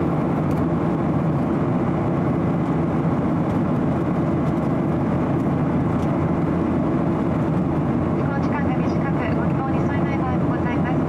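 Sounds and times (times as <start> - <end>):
jet engine hum: 0.0 - 11.0.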